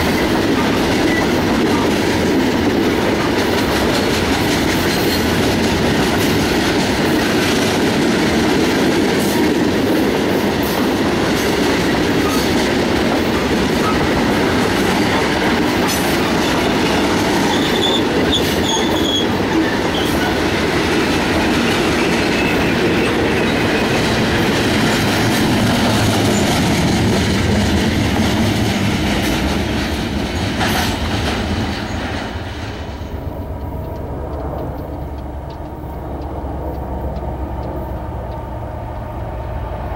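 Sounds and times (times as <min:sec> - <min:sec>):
clickety-clack over rail joints: 0:00.0 - 0:39.8
train wheels rumbling on rails: 0:00.0 - 0:39.9.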